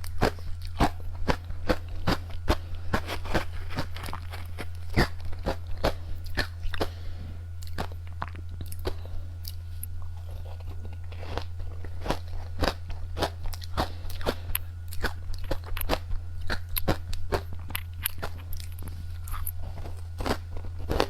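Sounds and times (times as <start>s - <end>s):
crunching and chewing hard candy: 0.0s - 21.0s.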